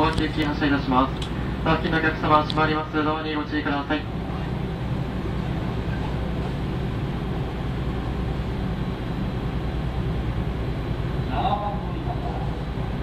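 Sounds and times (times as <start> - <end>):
electric train interior hum: 0.0 - 13.0.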